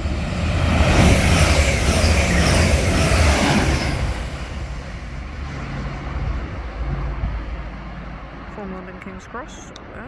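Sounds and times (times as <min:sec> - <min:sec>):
train wheels and air rushing: 0:00.0 - 0:08.5.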